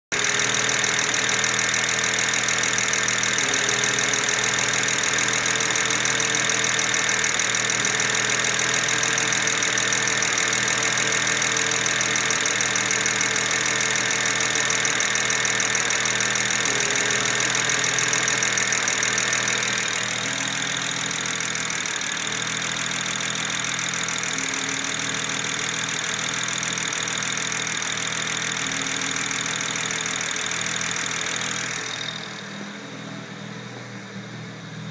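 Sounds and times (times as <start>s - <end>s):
car engine idling roughly: 0.1s - 34.9s.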